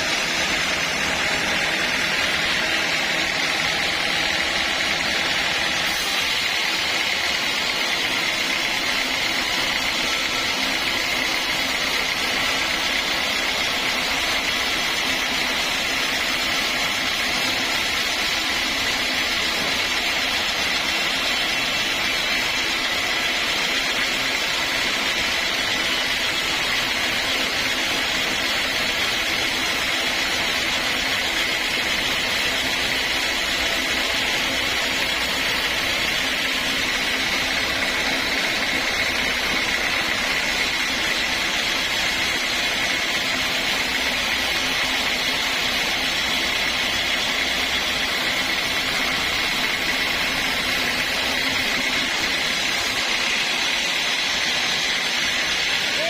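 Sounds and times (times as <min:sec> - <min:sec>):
sawmill machinery hissing whine: 0:00.0 - 0:56.0.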